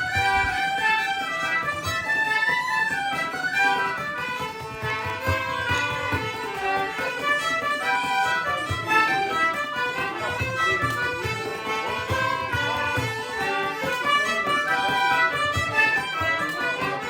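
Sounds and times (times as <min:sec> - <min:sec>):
fiddle music with low beat: 0:00.0 - 0:17.0.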